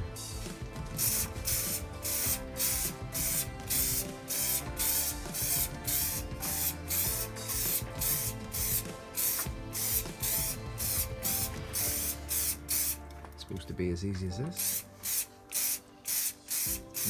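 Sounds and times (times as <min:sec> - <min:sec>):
background music: 0:00.0 - 0:17.0
aerosol spray hissing: 0:00.9 - 0:13.0, 0:14.6 - 0:17.0.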